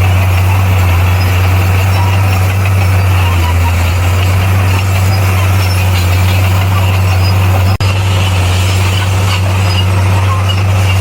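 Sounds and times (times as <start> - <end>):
heavy diesel engine droning: 0.0 - 11.0.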